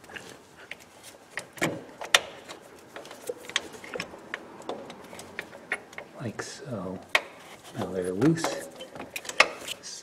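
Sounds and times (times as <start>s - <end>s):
metallic clicks and knocks: 0.7s - 6.2s, 7.0s - 9.8s.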